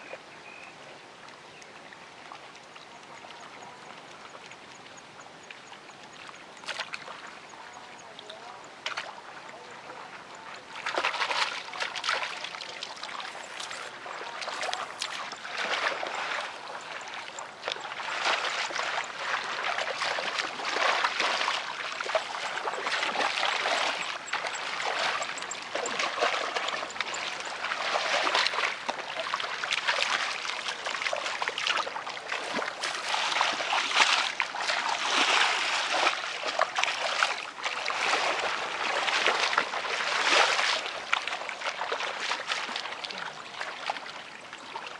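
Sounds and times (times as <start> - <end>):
splashing in muddy water: 6.6 - 44.9.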